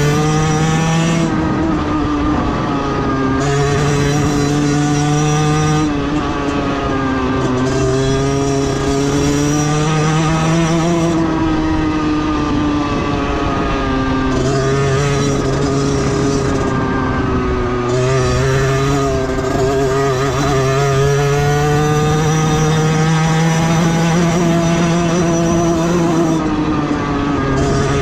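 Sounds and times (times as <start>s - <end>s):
two-stroke motorcycle engine: 0.0s - 28.0s.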